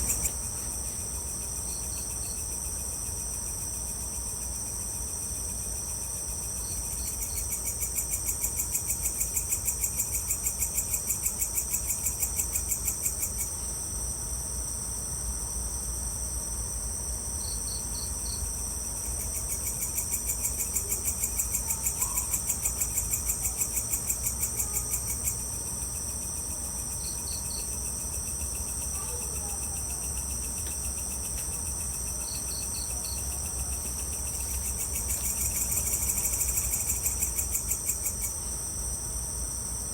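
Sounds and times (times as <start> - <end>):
fast pulsing insect call: 0.0 - 13.6, 17.4 - 39.7
crickets trilling: 0.0 - 39.9.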